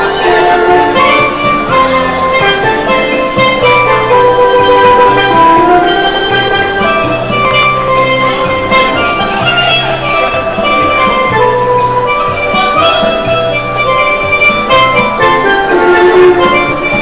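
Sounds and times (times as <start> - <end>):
bass and drums backing track: 0.0 - 17.0
steelpan melody: 0.0 - 17.0.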